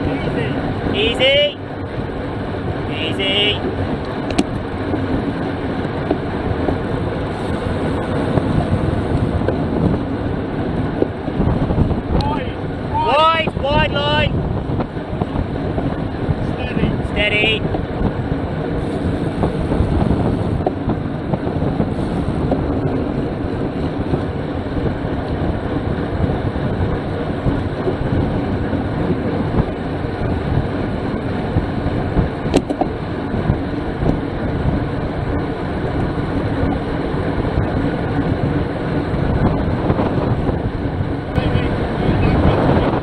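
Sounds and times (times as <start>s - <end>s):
bicycle road noise: 0.0s - 43.0s
wind rush: 0.0s - 43.0s.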